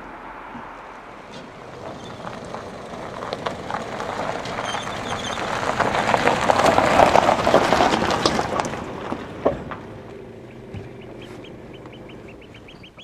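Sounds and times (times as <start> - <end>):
truck tyres crunching on gravel: 1.3 - 13.0.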